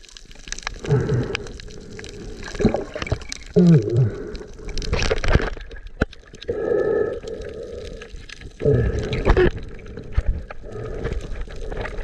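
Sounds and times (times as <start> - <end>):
water gurgling underwater: 0.0 - 12.0.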